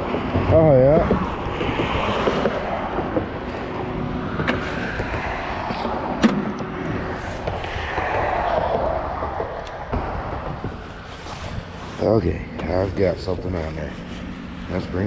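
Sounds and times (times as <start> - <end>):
highway traffic passing: 0.0 - 15.0.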